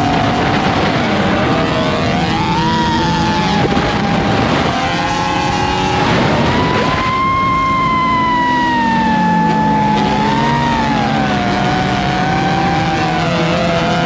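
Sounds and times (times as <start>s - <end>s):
engine running at high revs: 0.0s - 14.0s.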